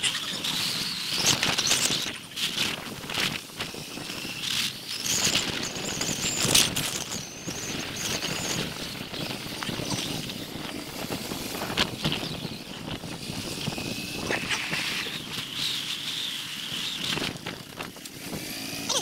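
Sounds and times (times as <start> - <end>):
road noise: 0.0 - 19.0
wind buffeting microphone: 0.8 - 15.8, 16.8 - 18.8.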